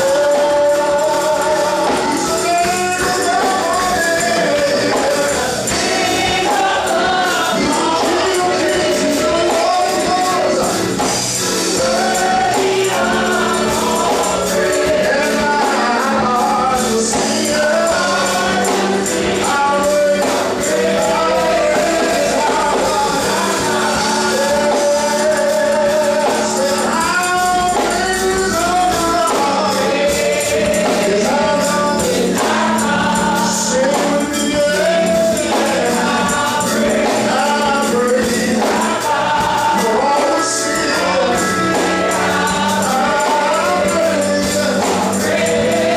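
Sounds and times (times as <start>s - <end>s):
gospel choir singing with band: 0.0s - 45.9s
tambourine beat: 0.0s - 45.9s.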